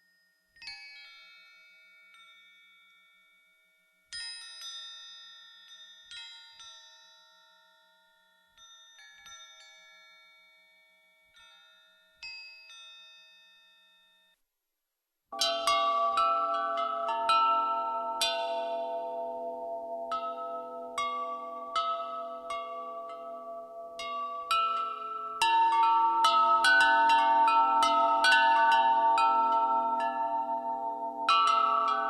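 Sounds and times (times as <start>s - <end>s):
metallic bell chimes: 0.0s - 14.4s, 15.4s - 32.0s.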